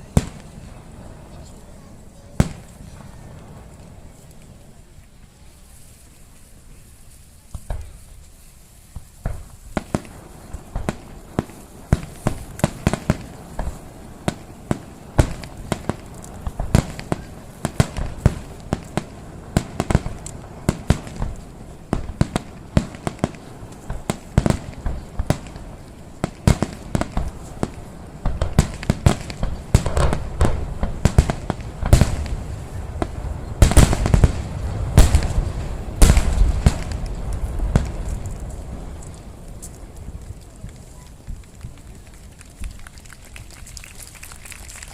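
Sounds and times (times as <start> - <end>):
fireworks booming bangs: 0.0 - 4.5, 8.9 - 41.5.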